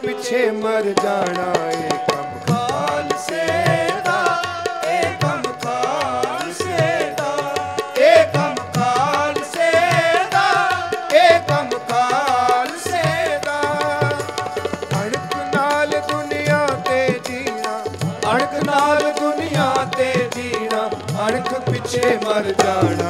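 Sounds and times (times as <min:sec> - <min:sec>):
harmonium chords: 0:00.0 - 0:23.0
tabla rhythm: 0:00.0 - 0:23.0
voices singing: 0:00.0 - 0:23.0.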